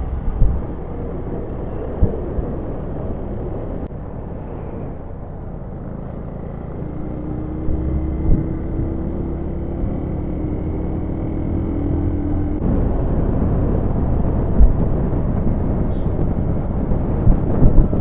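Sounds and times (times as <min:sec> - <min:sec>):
motorcycle engine rumble: 0:00.0 - 0:18.0
wind rushing over microphone: 0:00.0 - 0:18.0.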